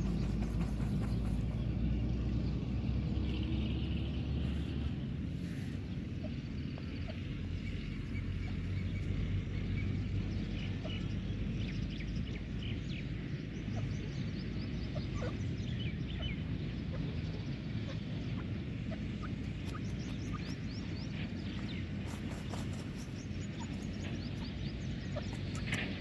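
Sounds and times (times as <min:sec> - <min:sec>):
birds chirping: 0:00.0 - 0:26.0
steady low rumble: 0:00.0 - 0:26.0.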